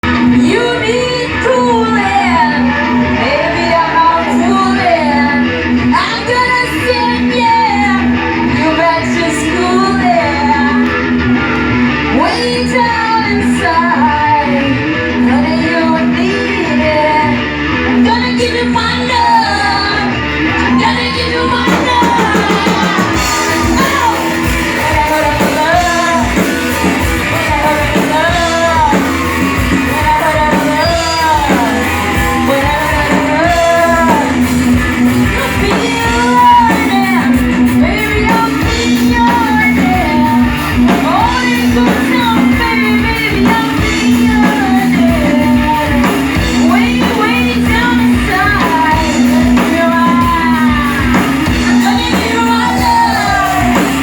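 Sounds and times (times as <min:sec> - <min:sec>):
person singing: 0:00.0 - 0:11.2, 0:12.1 - 0:54.0
amplified guitar: 0:00.0 - 0:54.0
driving drum beat: 0:00.0 - 0:54.0.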